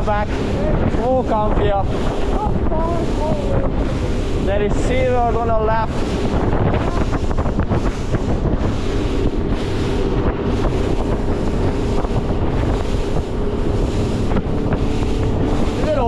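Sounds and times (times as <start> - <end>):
outboard motor hum: 0.0 - 16.0
water rushing past hull: 0.0 - 16.0
wind buffeting microphone: 0.0 - 16.0.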